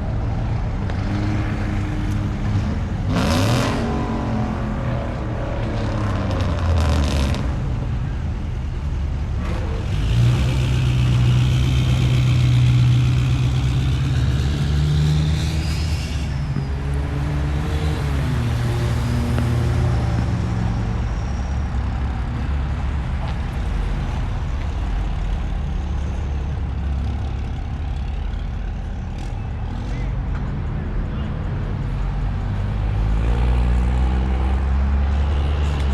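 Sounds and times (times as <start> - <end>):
road noise: 0.0 - 35.9
vehicle engine hum: 0.0 - 35.9.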